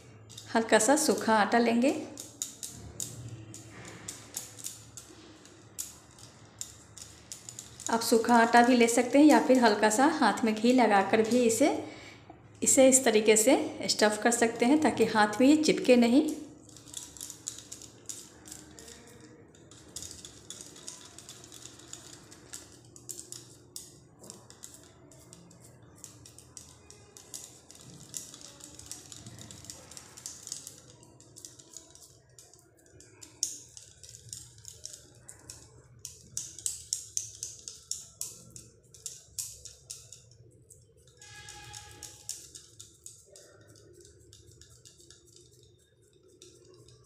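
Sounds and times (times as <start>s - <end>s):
glass bangles clinking: 0.0s - 10.0s, 14.4s - 47.0s.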